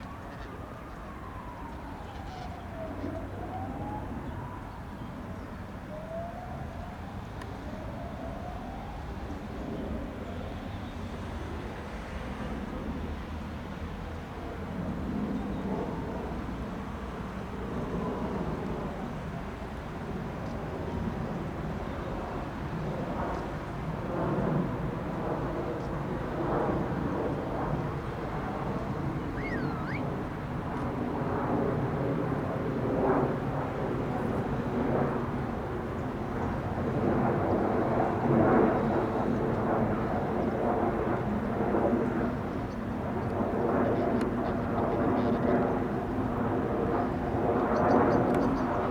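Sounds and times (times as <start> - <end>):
jet engines on approach: 0.0 - 48.9.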